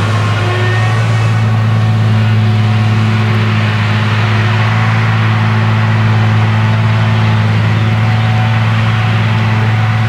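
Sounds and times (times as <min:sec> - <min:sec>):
forage harvester chopping crop: 0:00.0 - 0:10.0
tractor pulling trailer: 0:00.0 - 0:10.0.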